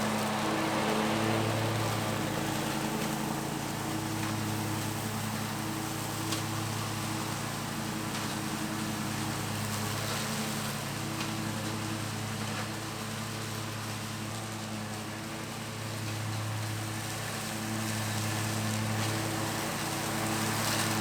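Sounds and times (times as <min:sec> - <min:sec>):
mower engine running: 0:00.0 - 0:21.0.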